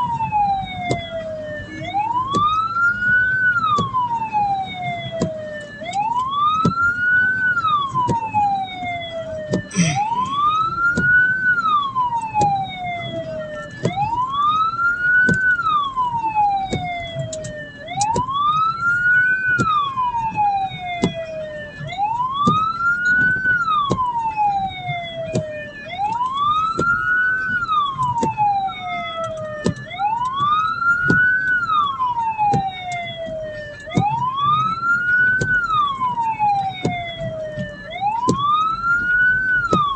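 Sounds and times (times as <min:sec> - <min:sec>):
siren wailing: 0:00.0 - 0:39.9
vehicle engine and road noise: 0:00.0 - 0:39.9.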